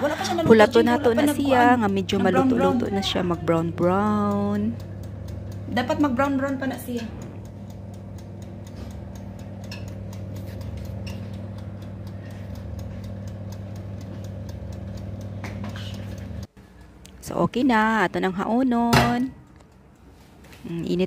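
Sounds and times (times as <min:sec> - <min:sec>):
electric oven humming: 0:00.0 - 0:21.0
oven timer ticking: 0:00.0 - 0:21.0.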